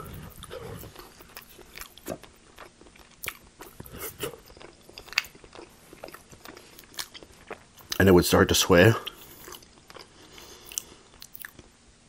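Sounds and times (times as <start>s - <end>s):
chewing food: 0.0s - 8.0s, 9.0s - 11.7s.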